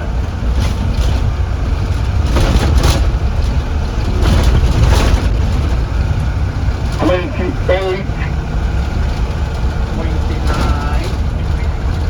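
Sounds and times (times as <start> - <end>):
bus engine and road rumble: 0.0 - 12.0
rattling: 0.3 - 12.0.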